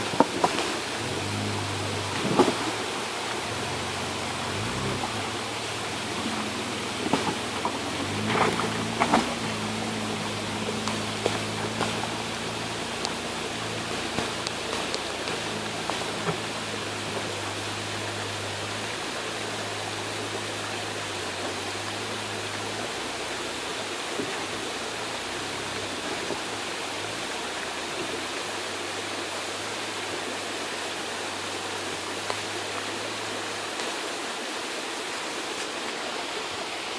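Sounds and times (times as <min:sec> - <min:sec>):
creek rushing: 0:00.0 - 0:36.9
vehicle engine hum: 0:00.0 - 0:36.9.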